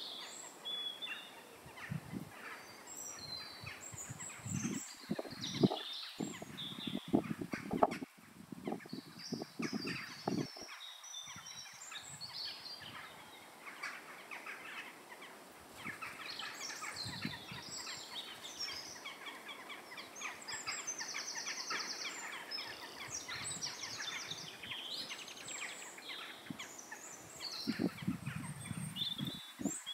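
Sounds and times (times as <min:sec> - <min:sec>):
birds singing and calling: 0:00.0 - 0:29.9.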